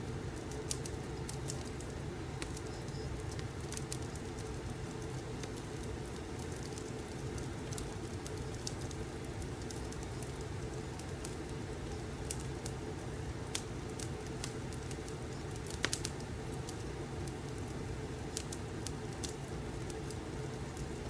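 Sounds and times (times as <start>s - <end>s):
wood fire crackling: 0.0s - 21.0s
fire pops and snaps: 0.3s - 21.0s.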